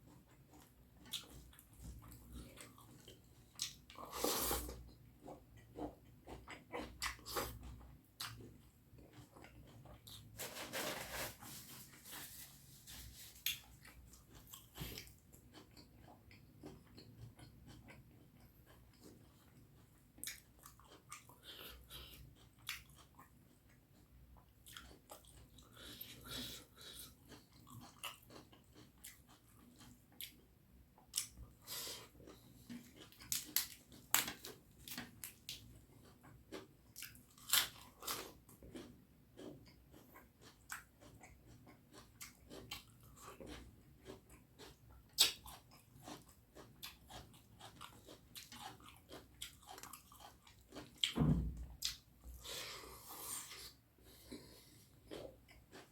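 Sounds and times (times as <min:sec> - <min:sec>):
close-up wet chewing: 0:00.0 - 0:10.4, 0:13.4 - 0:51.2, 0:51.8 - 0:55.9.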